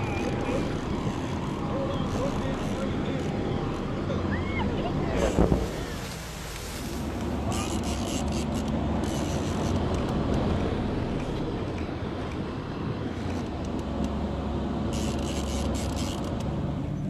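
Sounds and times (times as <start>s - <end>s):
watercraft engine rumbling: 0.0s - 17.0s.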